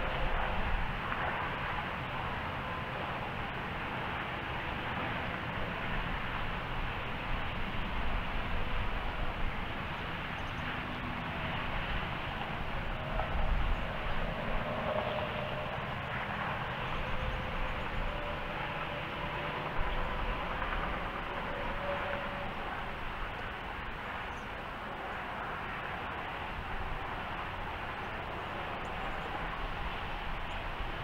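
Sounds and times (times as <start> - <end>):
distant train rumbling: 0.0 - 31.0.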